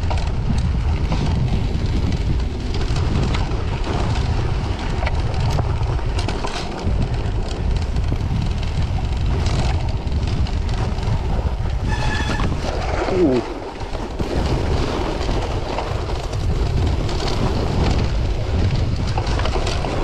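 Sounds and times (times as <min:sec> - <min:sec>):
bike clicking and rattling: 0:00.0 - 0:20.0
bike tyres rolling on snow: 0:00.0 - 0:20.0
wind rumble on microphone: 0:00.0 - 0:20.0.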